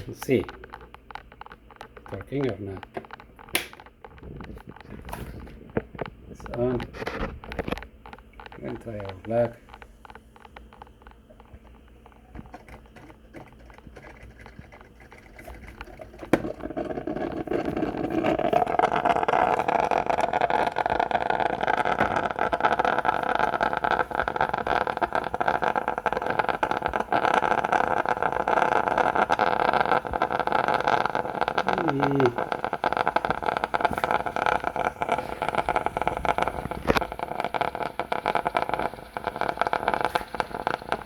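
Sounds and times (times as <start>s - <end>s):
coffee machine pump humming: 0.0s - 41.0s.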